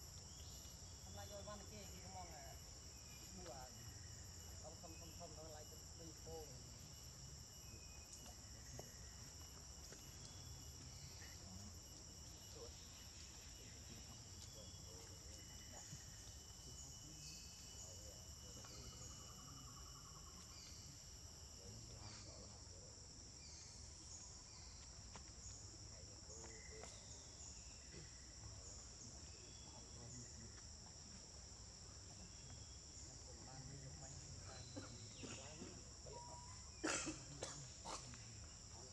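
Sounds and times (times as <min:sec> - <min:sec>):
insect chorus shrilling: 0:00.0 - 0:38.9
thin high insect tone: 0:00.0 - 0:38.9.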